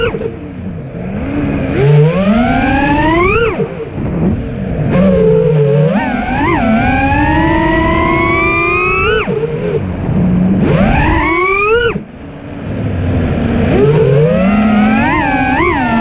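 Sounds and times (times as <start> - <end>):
quadcopter motors whining: 0.0 - 12.2, 13.6 - 16.0.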